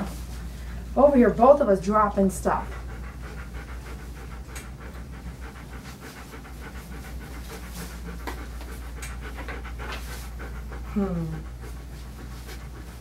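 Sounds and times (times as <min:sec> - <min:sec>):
dog panting fast: 0:00.0 - 0:13.0.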